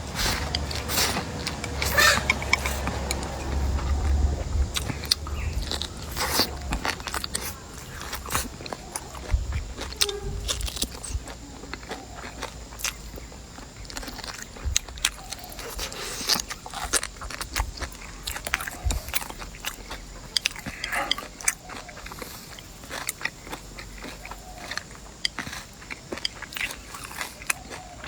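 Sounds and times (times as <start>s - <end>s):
person chewing and crunching food: 0.0s - 28.0s.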